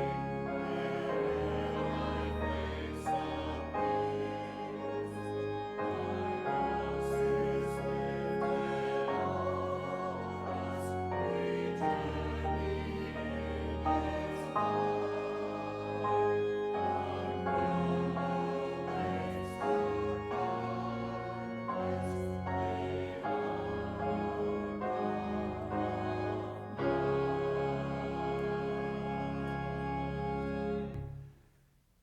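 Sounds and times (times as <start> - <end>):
congregation singing a hymn: 0.0 - 31.1
organ playing: 0.0 - 31.3.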